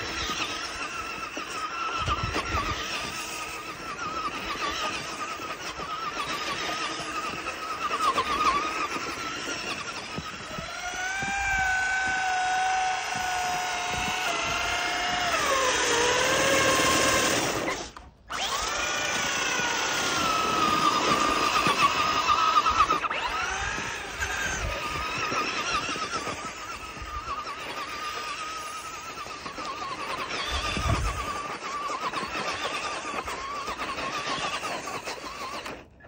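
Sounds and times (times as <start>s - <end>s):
electric motor whining: 0.0s - 36.0s.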